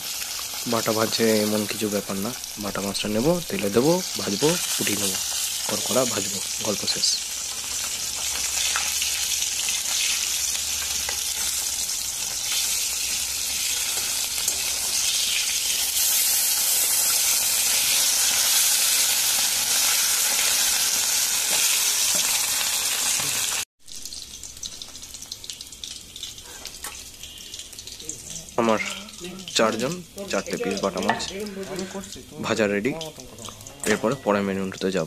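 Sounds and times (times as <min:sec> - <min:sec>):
fish deep-frying in hot oil: 0:00.0 - 0:35.0
sizzling hiss with crackles: 0:00.0 - 0:35.0.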